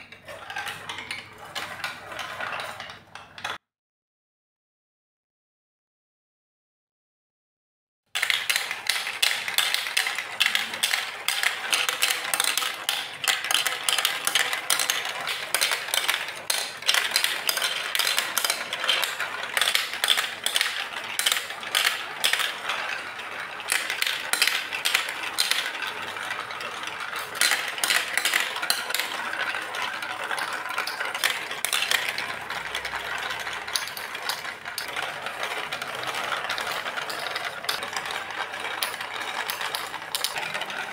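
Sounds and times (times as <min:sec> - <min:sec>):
plastic balls clattering down chutes: 0:00.0 - 0:03.6, 0:08.2 - 0:40.9.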